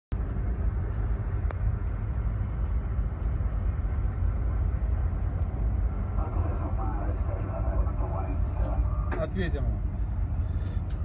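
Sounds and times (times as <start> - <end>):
helicopter rotor rumble: 0.2 - 11.0.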